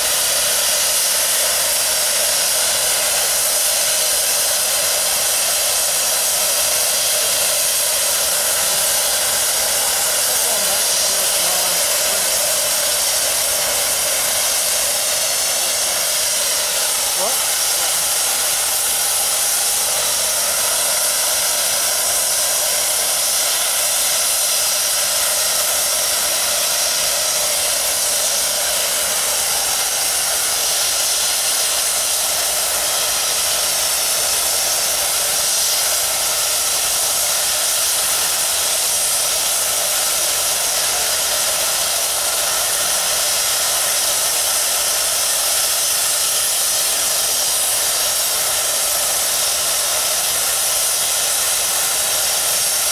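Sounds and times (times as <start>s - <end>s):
steam locomotive venting steam: 0.0s - 52.9s.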